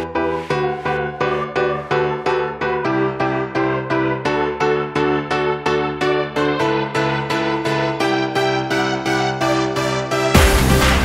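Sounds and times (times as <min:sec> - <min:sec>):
electronic music with pulsing chords: 0:00.0 - 0:11.0.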